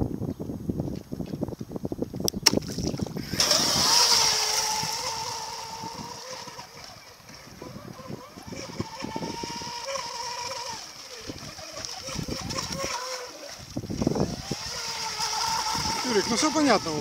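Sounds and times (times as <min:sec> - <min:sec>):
high electric motor whine: 0:02.8 - 0:17.0.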